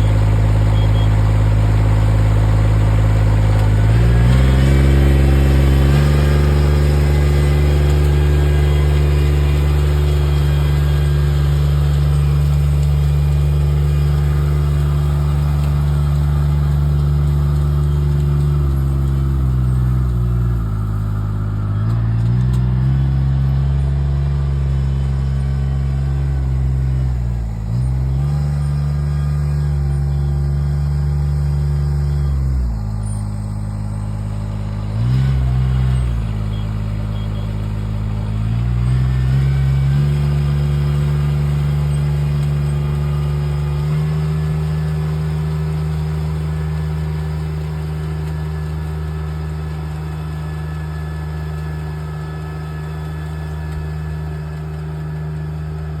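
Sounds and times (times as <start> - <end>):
rice transplanter engine running: 0.0 - 56.0.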